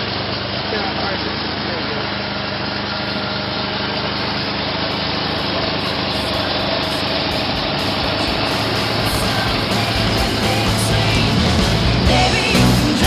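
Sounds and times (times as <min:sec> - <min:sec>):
rotary engine idling: 0:00.0 - 0:13.0.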